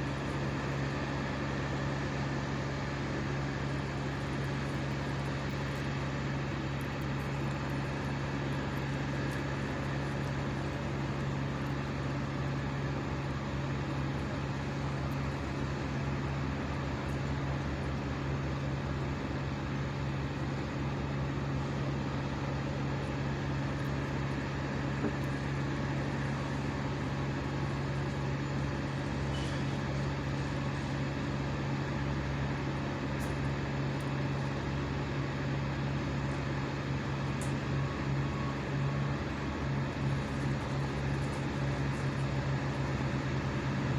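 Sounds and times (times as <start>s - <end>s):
engine droning at high speed: 0.0s - 43.9s.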